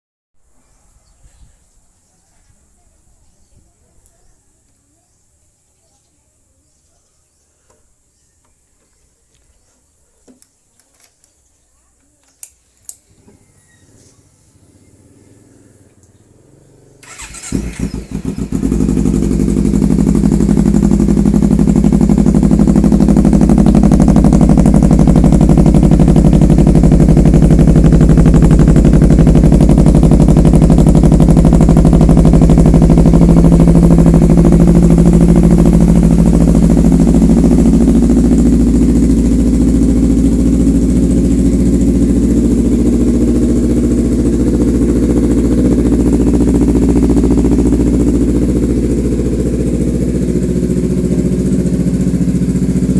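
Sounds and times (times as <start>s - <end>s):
motorcycle engine idling: 10.3s - 52.9s.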